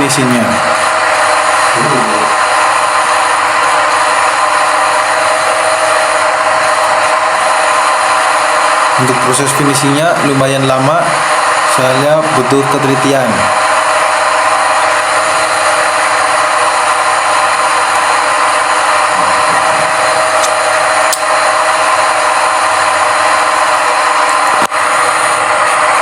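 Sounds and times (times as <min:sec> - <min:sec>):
lathe machine hum with hiss: 0:00.0 - 0:26.0.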